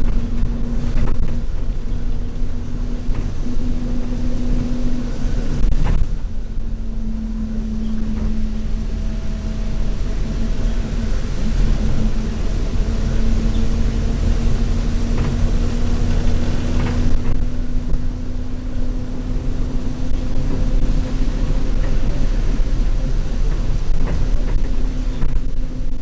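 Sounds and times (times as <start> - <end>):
bus engine drone: 0.0 - 26.0
thin whine: 0.0 - 26.0.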